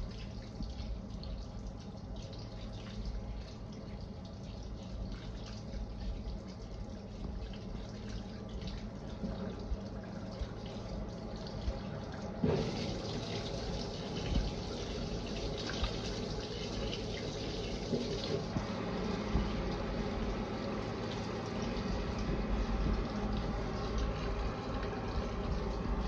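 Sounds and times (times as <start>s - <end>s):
water pouring into washing machine: 0.0s - 26.0s.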